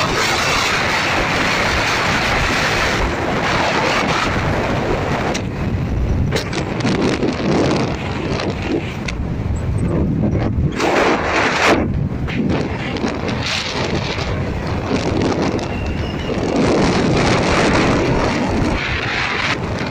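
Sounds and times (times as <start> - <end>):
vehicle road noise: 0.0 - 19.9
wind rushing over microphone: 0.0 - 19.9.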